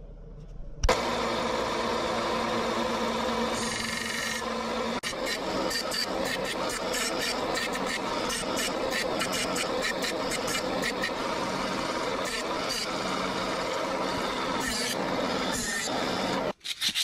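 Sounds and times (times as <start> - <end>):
belt sander running: 0.9 - 16.5.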